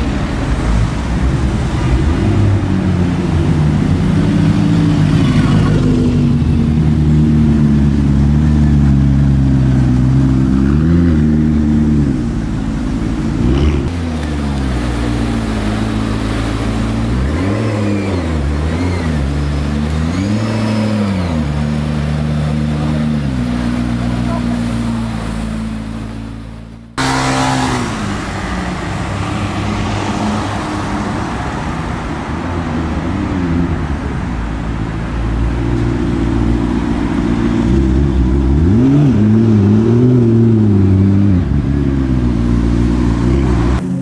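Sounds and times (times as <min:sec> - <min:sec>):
car engine revving: 0:01.6 - 0:34.1, 0:35.0 - 0:44.0.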